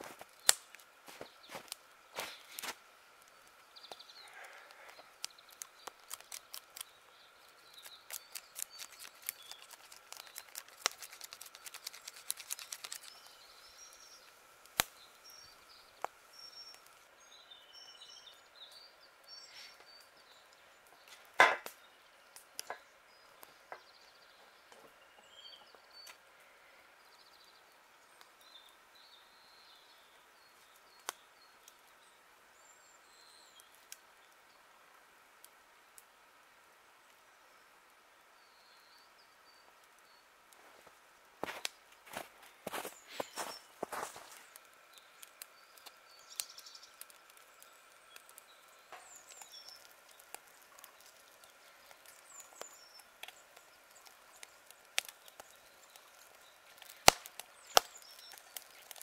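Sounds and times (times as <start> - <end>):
wood fire crackling: 0.0 - 25.0, 25.6 - 59.0.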